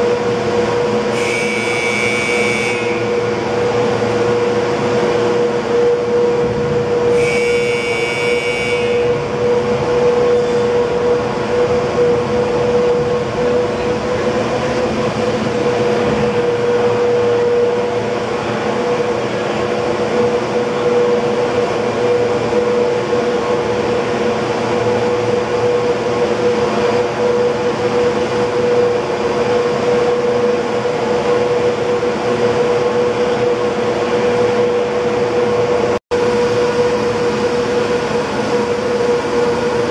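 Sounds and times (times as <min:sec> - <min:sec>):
machinery humming and whining: 0:00.0 - 0:39.9.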